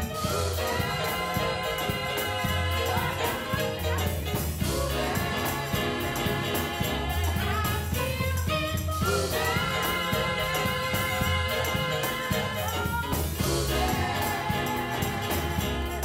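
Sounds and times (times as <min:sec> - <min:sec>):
instrumental accompaniment with bass: 0:00.0 - 0:16.0
voices singing church music: 0:00.0 - 0:16.0.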